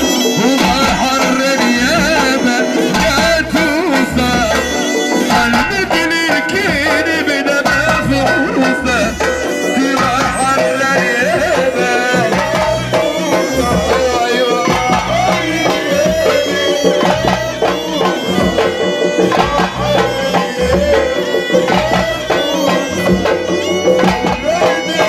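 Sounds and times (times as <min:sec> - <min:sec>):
goblet and frame drums beating: 0:00.0 - 0:25.0
winding melody line: 0:00.0 - 0:25.0.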